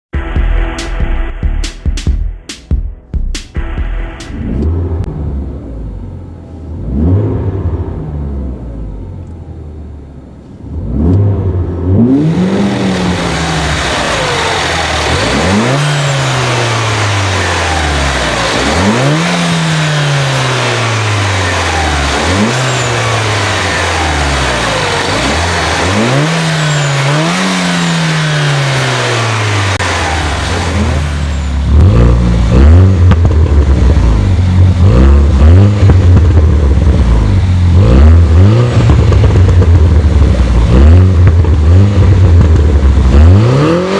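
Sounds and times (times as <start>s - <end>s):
car engine revving: 3.6s - 43.9s.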